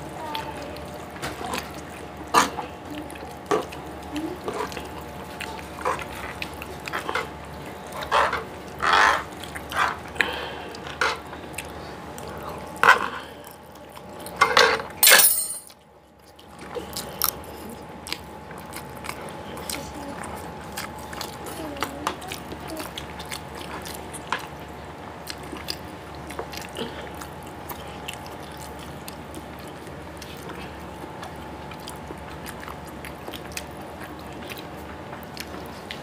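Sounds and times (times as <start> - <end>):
noodles slurped and chewed: 0.1 - 14.9, 16.0 - 36.0.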